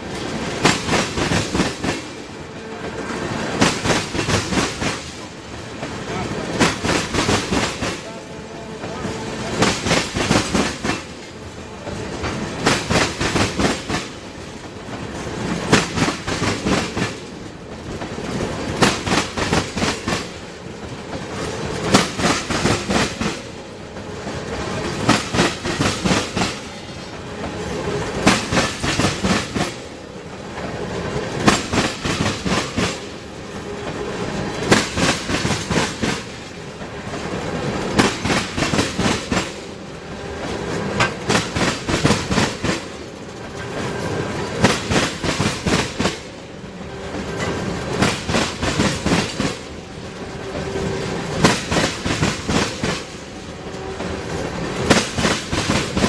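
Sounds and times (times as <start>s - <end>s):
train rumble: 0.0s - 56.0s
train wheels click-clacking: 0.0s - 56.0s.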